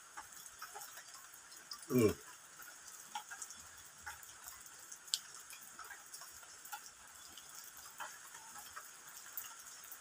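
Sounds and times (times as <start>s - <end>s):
soft ticks: 0.1s - 10.0s.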